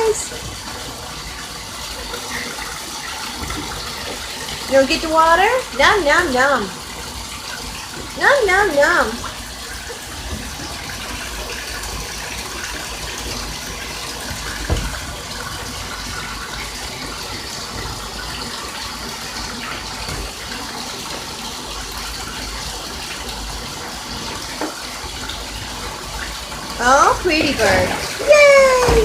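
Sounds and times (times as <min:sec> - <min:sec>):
water gushing into bathtub: 0:00.0 - 0:29.0.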